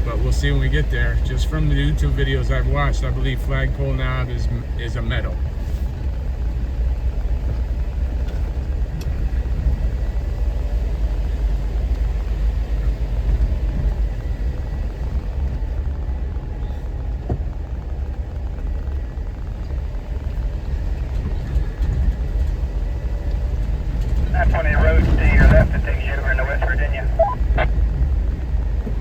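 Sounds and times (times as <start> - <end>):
engine and road rumble: 0.0 - 29.0.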